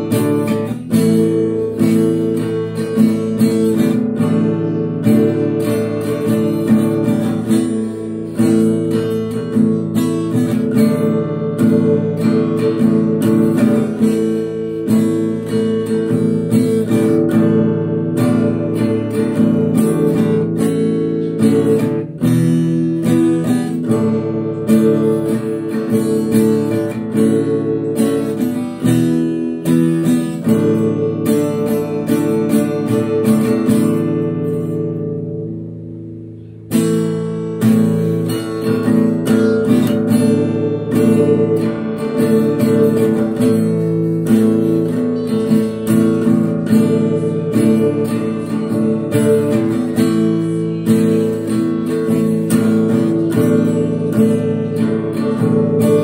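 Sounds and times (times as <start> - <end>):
acoustic guitar strummed: 0.0 - 56.0.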